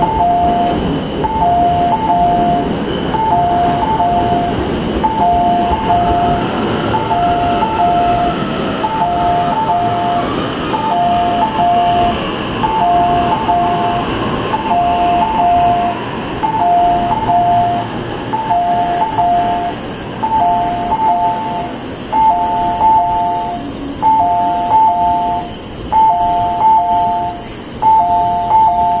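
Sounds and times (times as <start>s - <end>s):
electric train slowing: 0.0s - 29.0s.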